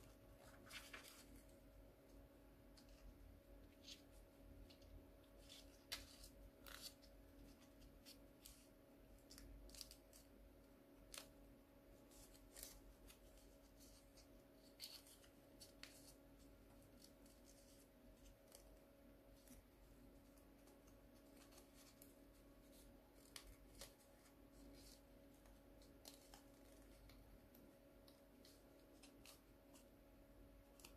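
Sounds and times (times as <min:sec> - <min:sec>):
paper crinkling: 0:00.0 - 0:01.7, 0:02.7 - 0:30.0.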